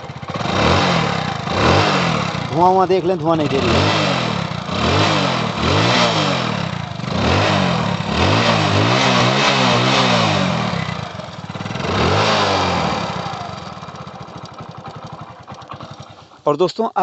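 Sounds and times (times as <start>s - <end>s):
motorcycle engine revving: 0.0s - 17.0s
motorcycle engine ticking idle: 0.0s - 17.0s.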